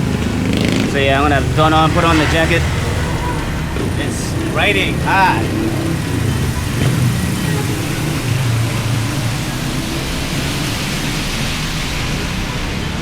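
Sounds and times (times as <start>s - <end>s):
heavy rain: 0.0s - 13.0s
motorcycle engine hum: 0.0s - 13.0s.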